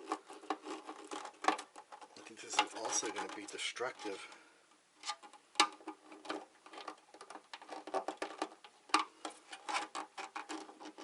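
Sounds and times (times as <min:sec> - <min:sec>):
plastic clicks and scrapes: 0:00.0 - 0:04.4, 0:05.0 - 0:11.0.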